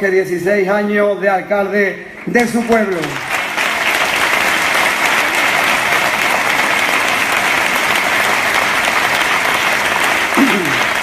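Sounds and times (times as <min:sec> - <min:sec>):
large audience applauding: 0:02.1 - 0:11.0.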